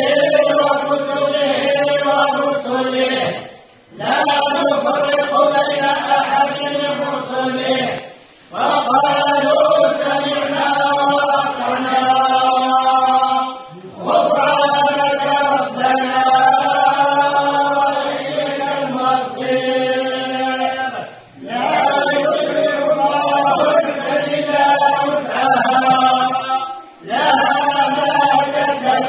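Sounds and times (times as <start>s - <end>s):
men chanting in unison: 0.0s - 29.0s.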